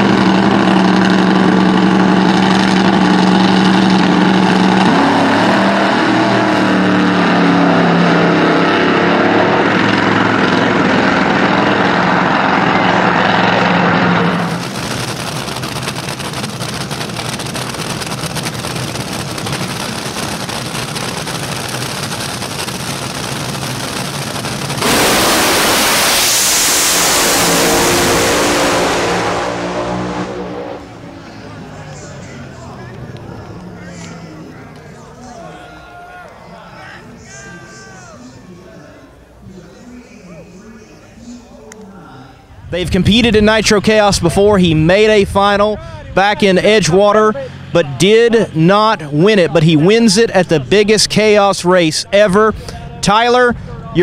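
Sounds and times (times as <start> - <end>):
dragster engines roaring: 0.0 - 54.0
even engine rumble: 0.0 - 54.0.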